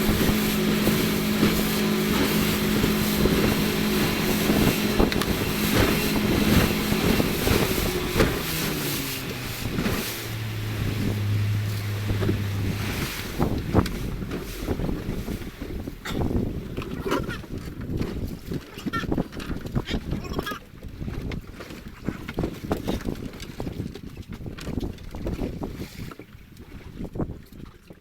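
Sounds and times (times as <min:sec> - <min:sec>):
boat engine running: 0:00.0 - 0:25.8.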